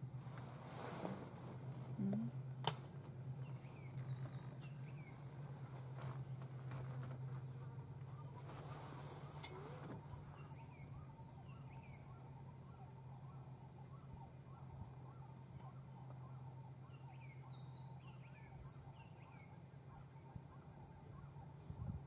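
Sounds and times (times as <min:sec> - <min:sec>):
faint birdsong: 0:00.0 - 0:22.0
steady low hum: 0:00.0 - 0:22.0.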